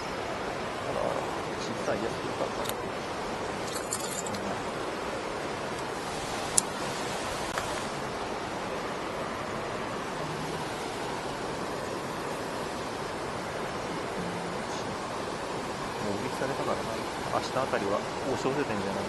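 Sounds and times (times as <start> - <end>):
river water pouring over weir: 0.0 - 19.0.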